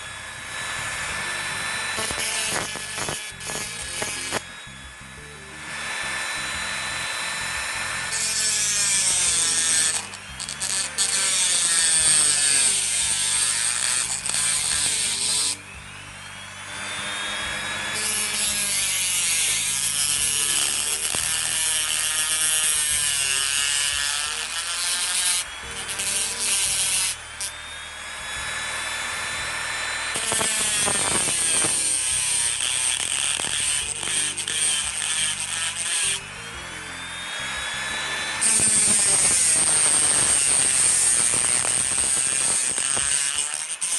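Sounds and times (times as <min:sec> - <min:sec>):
rotary cutting tool whining: 0:00.0 - 0:43.9.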